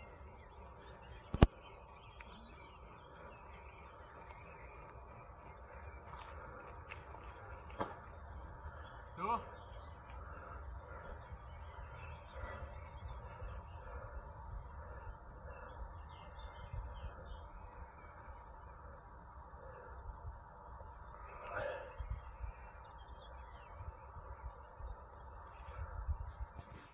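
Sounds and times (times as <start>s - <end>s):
crickets trilling: 0.0s - 26.9s
faint chirps: 0.0s - 26.9s.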